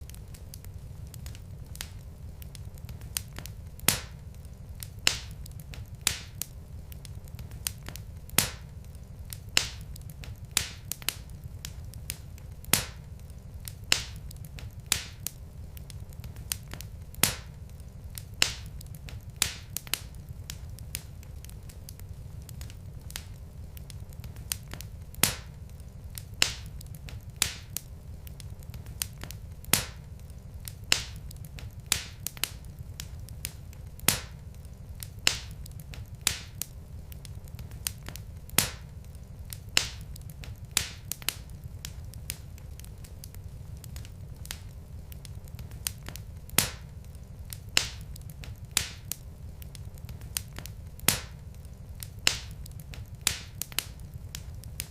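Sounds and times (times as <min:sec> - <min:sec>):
logs crackling in fireplace: 0:00.0 - 0:54.9.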